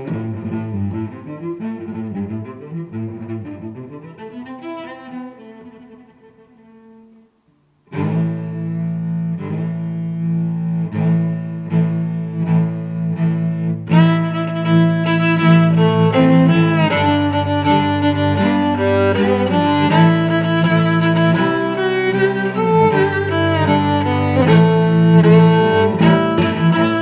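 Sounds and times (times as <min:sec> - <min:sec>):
held low string notes: 0:00.0 - 0:06.0, 0:07.9 - 0:27.0.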